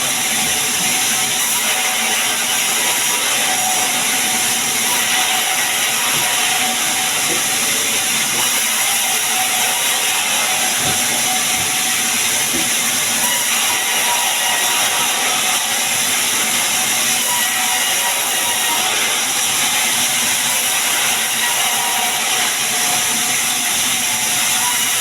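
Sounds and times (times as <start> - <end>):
saw cutting through wood: 0.0 - 25.0.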